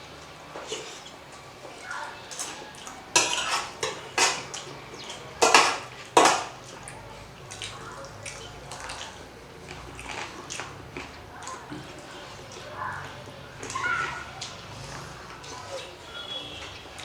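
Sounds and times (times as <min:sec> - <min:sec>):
sharp eating clicks and smacks: 0:00.1 - 0:17.0.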